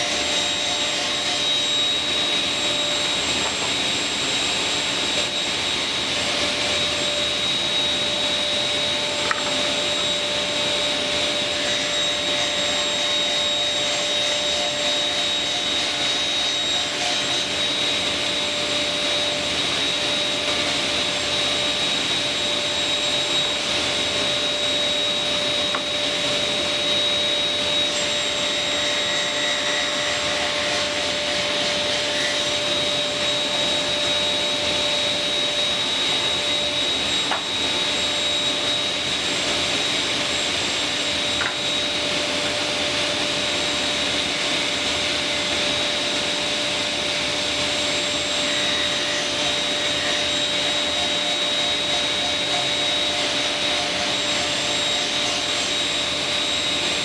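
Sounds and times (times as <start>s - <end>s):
dust extractor running: 0.0s - 57.0s.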